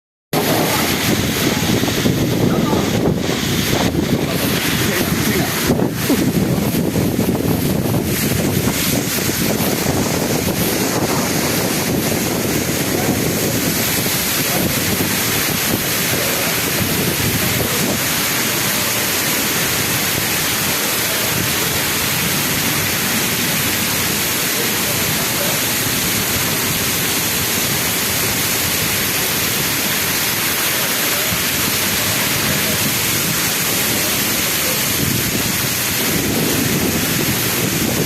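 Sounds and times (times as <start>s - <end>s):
heavy rain falling: 0.3s - 38.0s.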